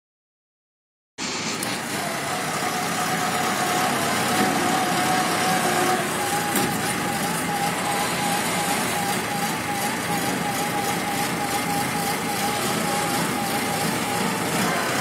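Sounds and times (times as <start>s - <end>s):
diesel engine running: 1.2s - 15.0s
thin mechanical whine: 1.4s - 15.0s.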